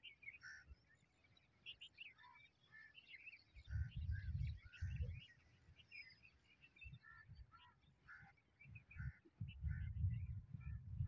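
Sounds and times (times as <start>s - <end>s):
birds chirping: 0.0s - 10.8s.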